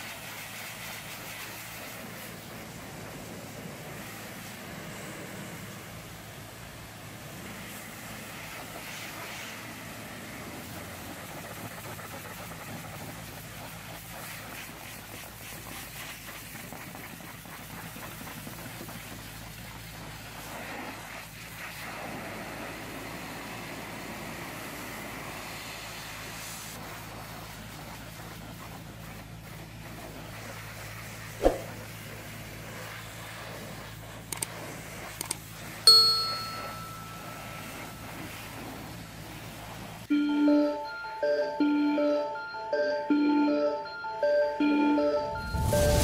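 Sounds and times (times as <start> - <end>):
water jet hissing: 0.0 - 40.1.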